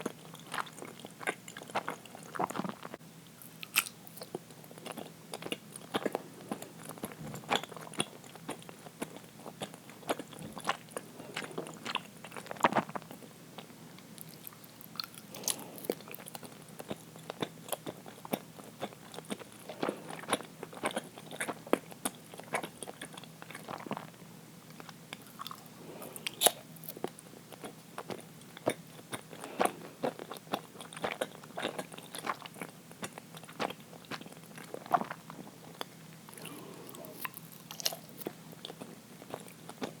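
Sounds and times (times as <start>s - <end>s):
person chewing sticky food: 0.0s - 40.0s.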